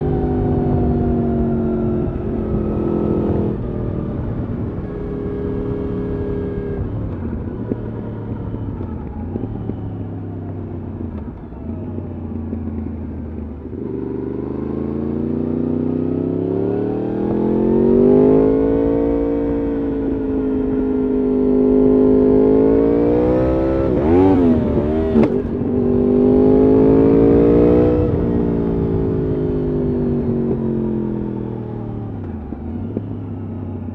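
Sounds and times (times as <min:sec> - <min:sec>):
motorcycle engine shifting gears: 0:00.0 - 0:33.9
motorcycle throttle blips: 0:00.0 - 0:33.9.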